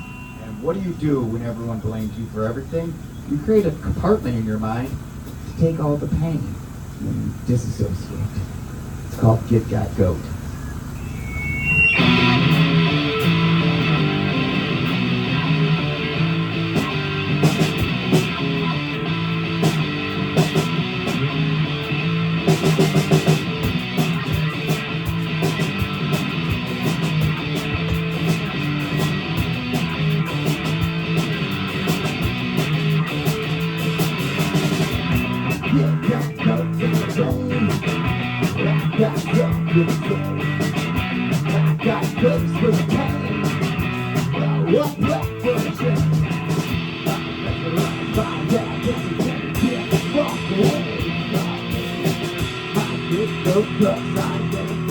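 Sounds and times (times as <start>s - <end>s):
bass guitar: 0.0s - 54.9s
distorted electric guitar: 0.0s - 54.9s
drum kit with cymbal hits: 0.0s - 54.9s.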